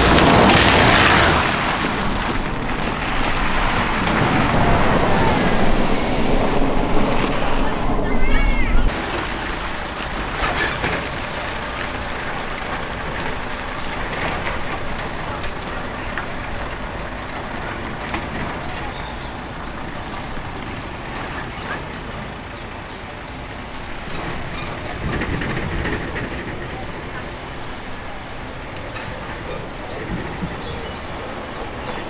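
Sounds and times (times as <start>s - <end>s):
wheels pushing into water: 0.0s - 8.2s, 8.9s - 32.0s.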